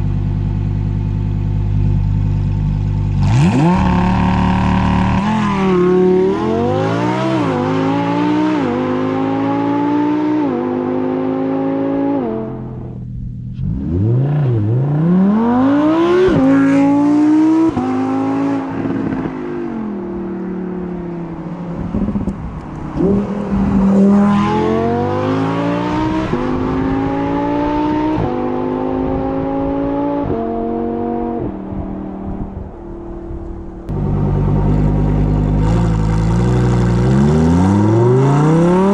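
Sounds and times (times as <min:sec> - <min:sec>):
sports car engine accelerating: 0:00.0 - 0:38.9.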